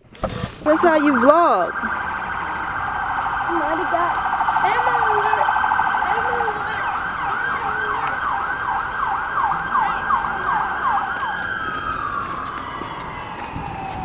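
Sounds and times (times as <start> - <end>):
emergency siren: 0.6 - 14.0.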